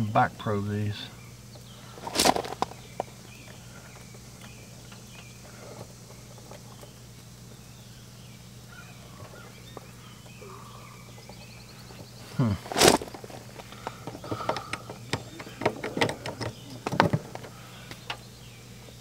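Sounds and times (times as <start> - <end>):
steady low hum: 0.0 - 19.0
faint bird chirps: 0.5 - 12.8, 13.7 - 19.0
rustle of movement: 1.0 - 19.0.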